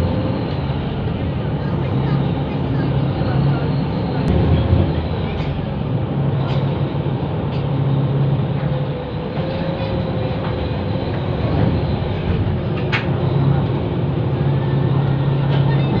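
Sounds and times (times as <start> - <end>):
ferry diesel engines droning: 0.0 - 16.0.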